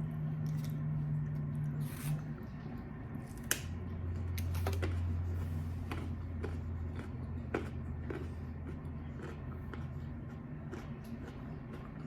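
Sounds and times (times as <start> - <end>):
steady low hum: 0.0 - 12.0
chewing crunches and wet clicks: 0.4 - 1.8, 3.3 - 12.0.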